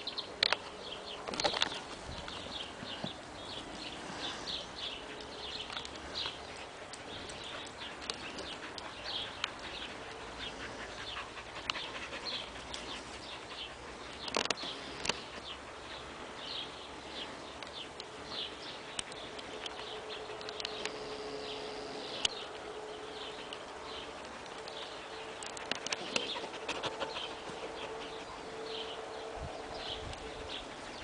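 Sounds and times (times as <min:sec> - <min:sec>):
small birds chirping: 0:00.0 - 0:31.0
dogs panting: 0:00.2 - 0:31.0.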